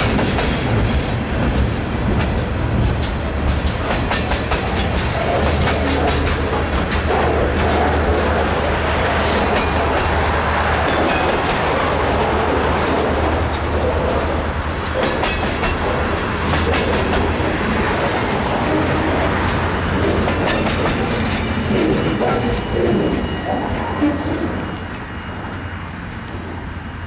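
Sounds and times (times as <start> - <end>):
train wheels clacking over rail joints: 0.0 - 25.0
train rumble: 0.0 - 27.0.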